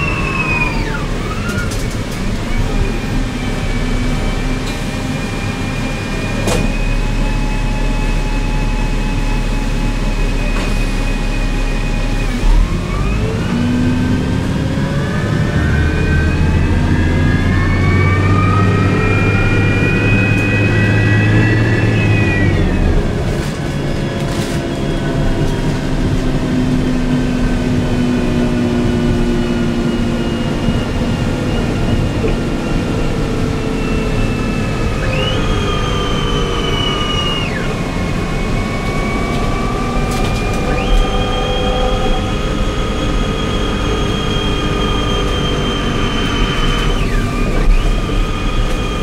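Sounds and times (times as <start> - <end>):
bus engine whining: 0.0 - 49.0.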